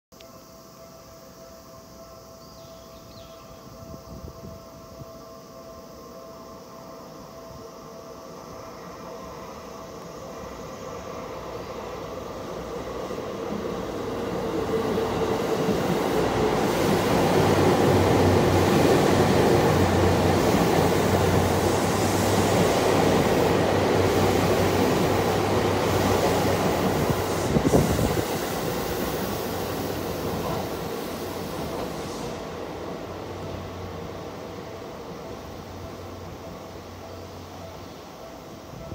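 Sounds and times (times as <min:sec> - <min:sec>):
electric train passing: 0:00.2 - 0:38.9.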